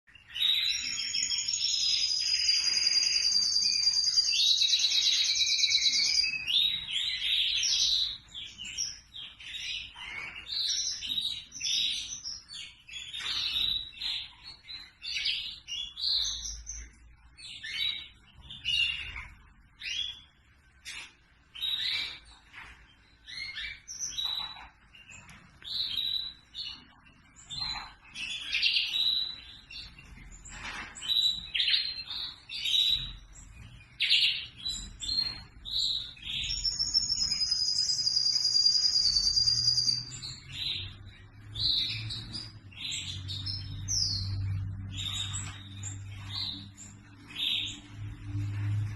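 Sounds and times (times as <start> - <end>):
canary singing with trills: 0.0 - 48.9.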